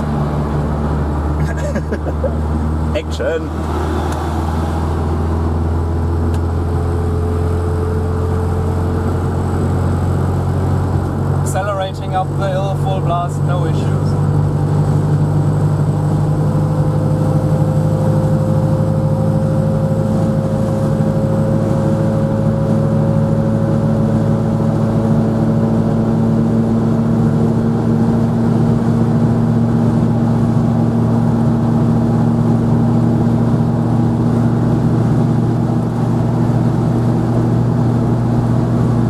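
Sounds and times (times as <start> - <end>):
car engine at full throttle: 0.0 - 39.0.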